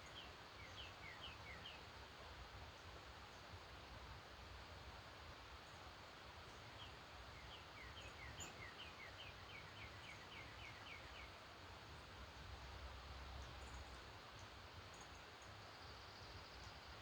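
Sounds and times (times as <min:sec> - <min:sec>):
songbird singing faintly: 0:00.0 - 0:03.6, 0:06.4 - 0:17.0
steady background hiss: 0:00.0 - 0:17.0.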